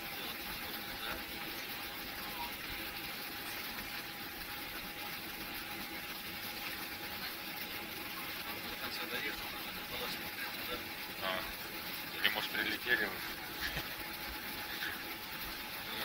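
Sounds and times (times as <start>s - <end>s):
faint engine whine: 0.0s - 16.0s.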